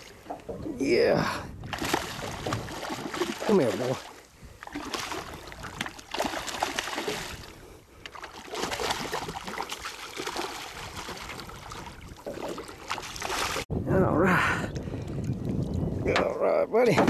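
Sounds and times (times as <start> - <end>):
water splashing around boat: 0.0 - 13.7.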